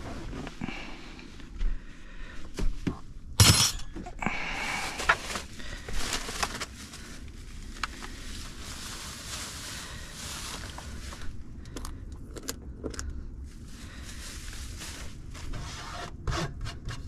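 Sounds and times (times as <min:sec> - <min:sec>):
rustling and clatter: 0:02.5 - 0:17.0.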